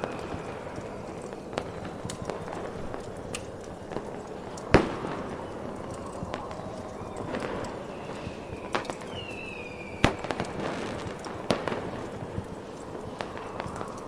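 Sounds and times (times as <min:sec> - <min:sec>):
fireworks popping: 0:00.0 - 0:14.0
steady hiss: 0:00.0 - 0:14.0.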